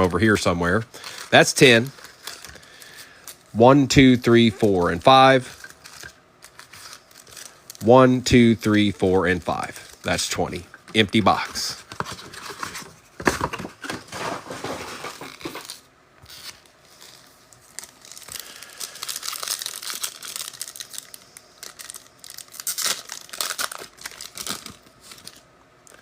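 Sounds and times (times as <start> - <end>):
card wrappers tearing and crinkling: 0.0 - 26.0.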